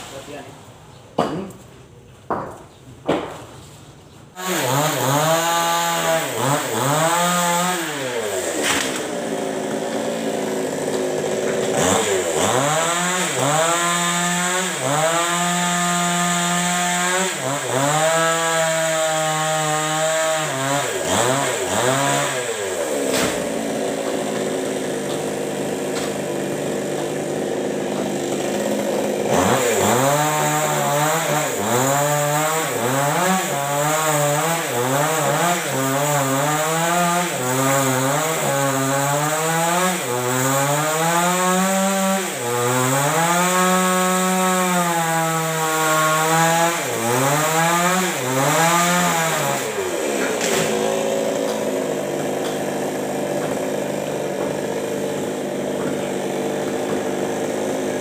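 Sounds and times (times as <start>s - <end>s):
chainsaw revving: 4.4s - 58.0s.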